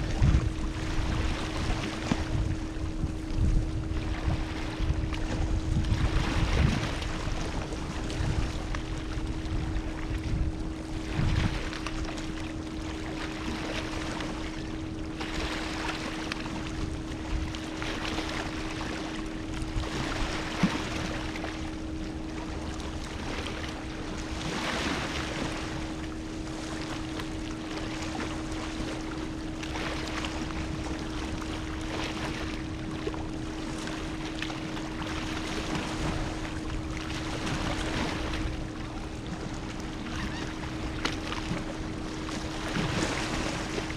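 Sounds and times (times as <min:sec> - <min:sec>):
low hum: 0:00.0 - 0:43.9
ocean waves washing in: 0:00.0 - 0:43.9.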